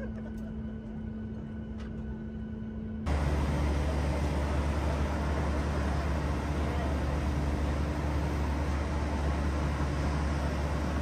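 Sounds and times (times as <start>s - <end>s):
deep rumble with hiss: 0.0s - 11.0s
vehicle interior hum: 0.0s - 11.0s.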